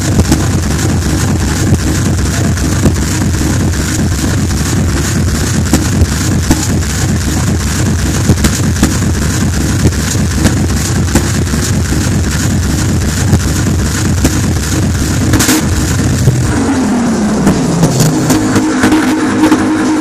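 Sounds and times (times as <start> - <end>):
distorted bass-heavy club music: 0.0 - 20.0.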